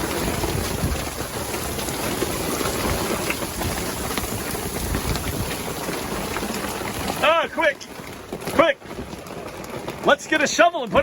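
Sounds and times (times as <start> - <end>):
hail pelting on a deck: 0.0 - 11.0.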